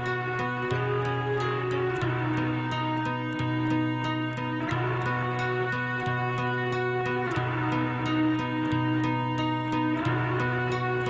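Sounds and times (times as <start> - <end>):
guitar: 0.0 - 11.0.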